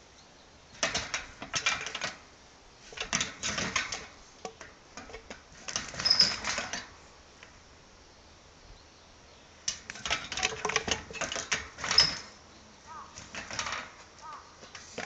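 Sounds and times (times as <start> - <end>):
hooves clattering on wire mesh: 0.7 - 7.6, 9.6 - 15.0.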